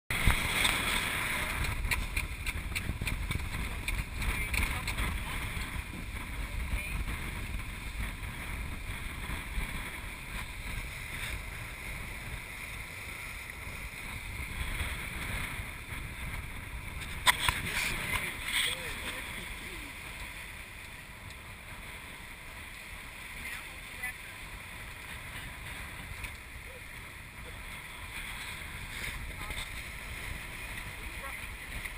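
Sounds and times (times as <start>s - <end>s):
water rushing past hulls: 0.1s - 31.9s
wind buffeting microphone: 0.1s - 31.9s.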